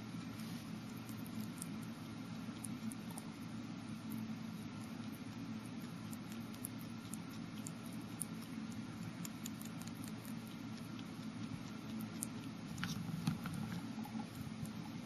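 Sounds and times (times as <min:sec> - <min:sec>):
guinea pig eating wet clicks: 0:00.0 - 0:15.0.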